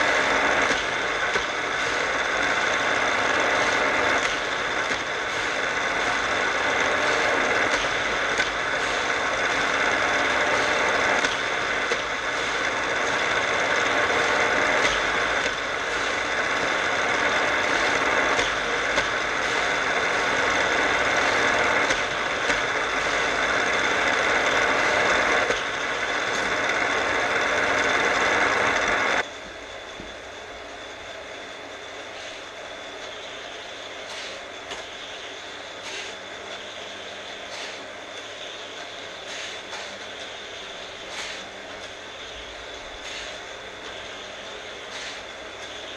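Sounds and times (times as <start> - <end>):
toy track boosters whirring: 0.0 - 45.9.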